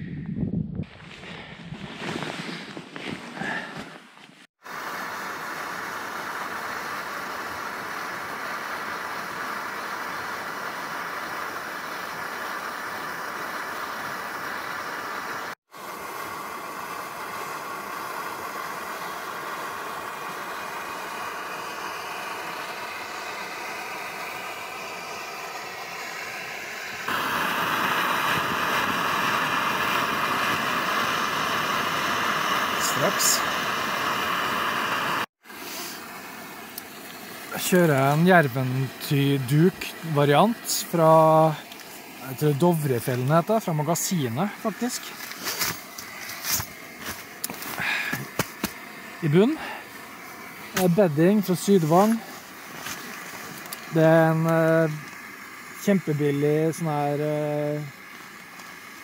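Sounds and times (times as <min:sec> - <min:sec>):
camping stove hissing: 0:03.0 - 0:59.0.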